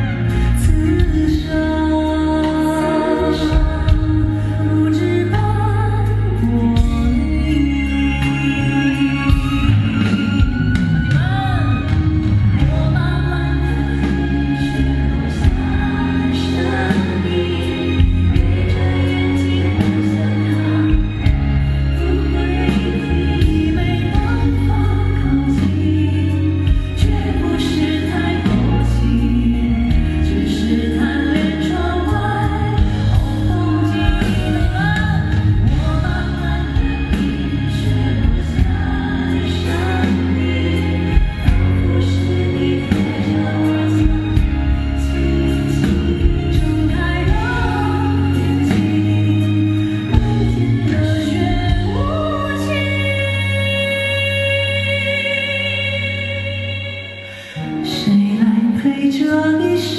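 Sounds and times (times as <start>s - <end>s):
band playing with strong bass: 0.0s - 58.8s.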